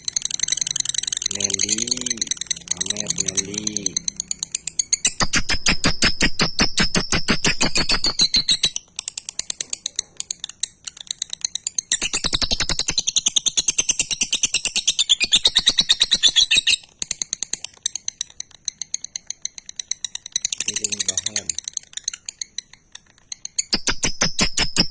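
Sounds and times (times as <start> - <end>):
lovebird high-pitched chatter: 0.0 - 24.9.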